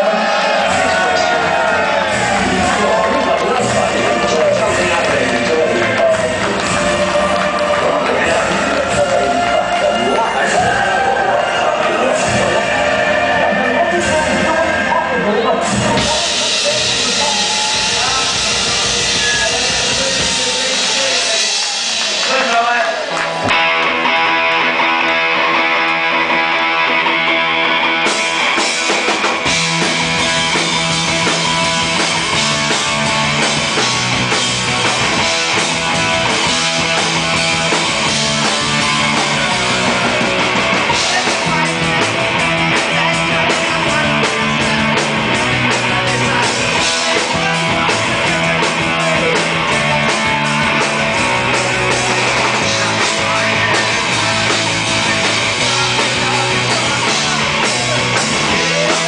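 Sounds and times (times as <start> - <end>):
bass guitar: 0.0 - 59.0
drums: 0.0 - 59.0
electric guitar: 0.0 - 59.0.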